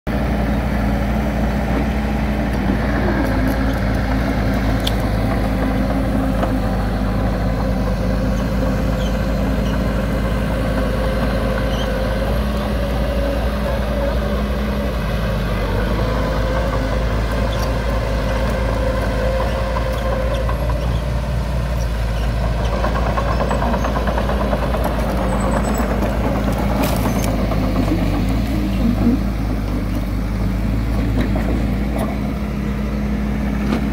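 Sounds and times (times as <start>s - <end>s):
bulldozer diesel engine running: 0.1s - 33.9s.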